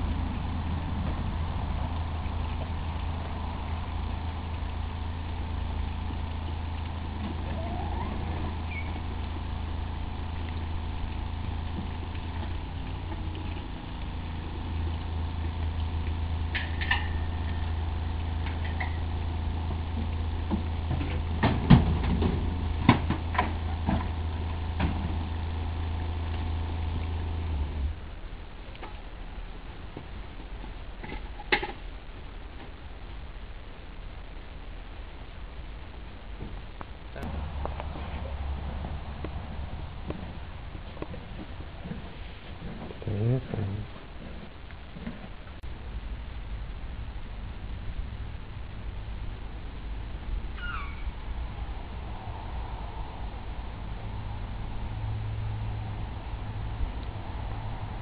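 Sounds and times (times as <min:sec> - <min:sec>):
engine idling hum: 0:00.0 - 0:58.0.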